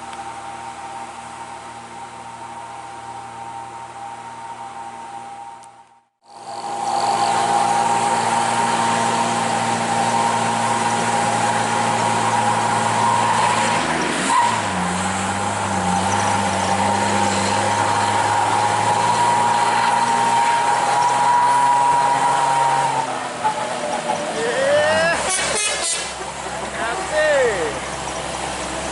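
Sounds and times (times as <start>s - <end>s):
truck engine under load: 0.0s - 28.9s.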